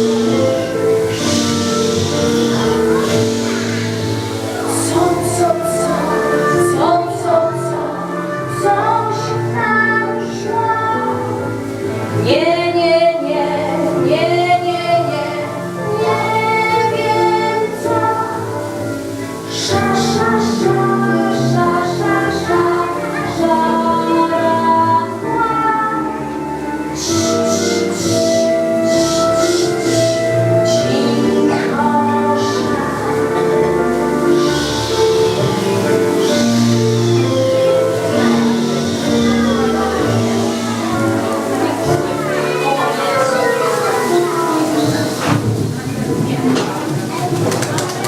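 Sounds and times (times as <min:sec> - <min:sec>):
children singing: 0:00.0 - 0:48.0
instrumental accompaniment: 0:00.0 - 0:48.0
woman singing: 0:04.6 - 0:18.8, 0:19.4 - 0:45.2.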